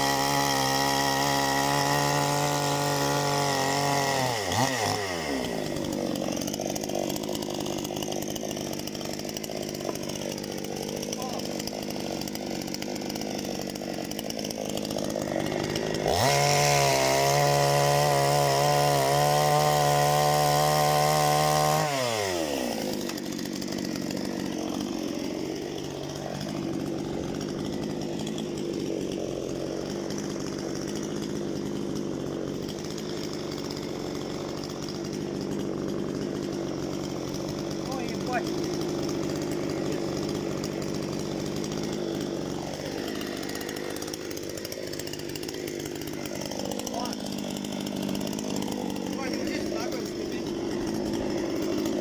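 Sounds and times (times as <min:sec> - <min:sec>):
chainsaw idling and revving: 0:00.0 - 0:52.0.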